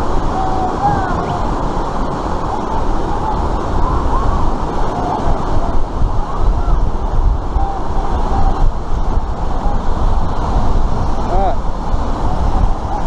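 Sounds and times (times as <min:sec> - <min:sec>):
rushing white water: 0:00.0 - 0:13.0
wind buffeting microphone: 0:00.0 - 0:13.0.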